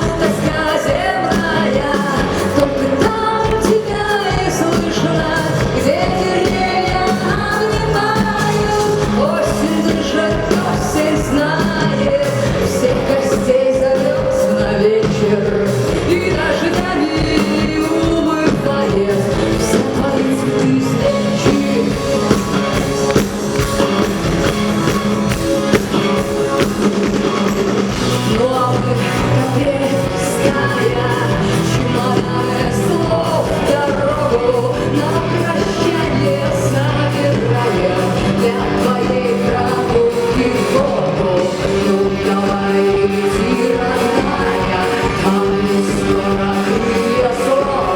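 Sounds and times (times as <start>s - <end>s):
live band playing: 0.0s - 47.9s
woman singing: 0.0s - 47.9s.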